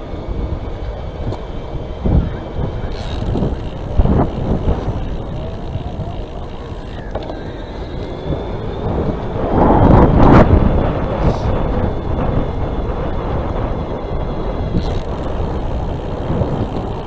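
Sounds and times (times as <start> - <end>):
road rumble: 0.0 - 17.0
wind rushing over microphone: 0.0 - 17.0.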